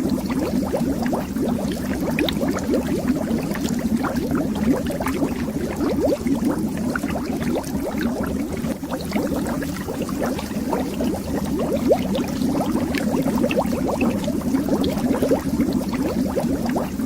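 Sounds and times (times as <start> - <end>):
underwater bubbles: 0.0 - 17.0.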